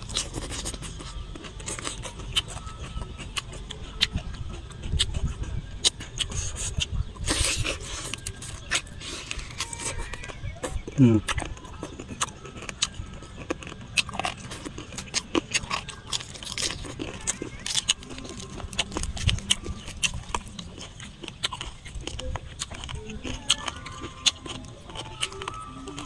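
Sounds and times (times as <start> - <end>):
chewing: 0.0 - 26.0
lettuce leaves crackling: 0.0 - 26.0.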